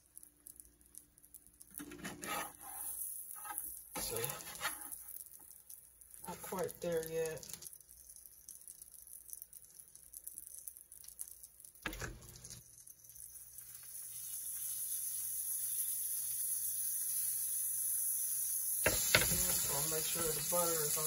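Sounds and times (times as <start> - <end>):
food sizzling in a pan: 1.7 - 21.0.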